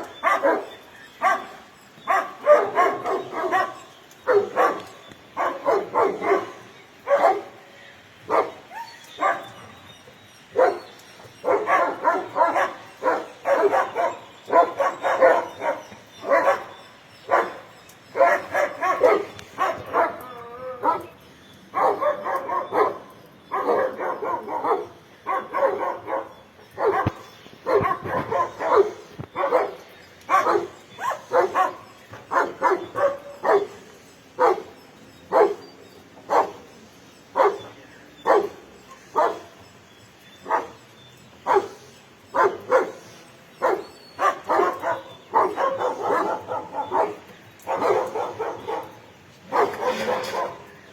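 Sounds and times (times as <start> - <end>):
dog barking: 0.1 - 7.6, 8.3 - 9.6, 10.6 - 21.1, 21.7 - 33.8, 34.4 - 34.7, 35.3 - 35.6, 36.3 - 36.7, 37.3 - 39.5, 40.4 - 40.8, 41.4 - 43.0, 43.6 - 50.8.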